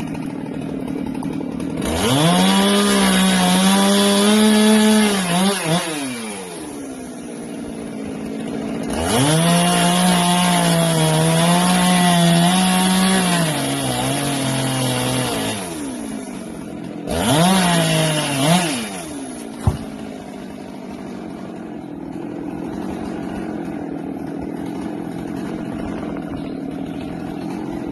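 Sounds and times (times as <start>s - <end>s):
chainsaw revving and idling: 0.0s - 27.9s.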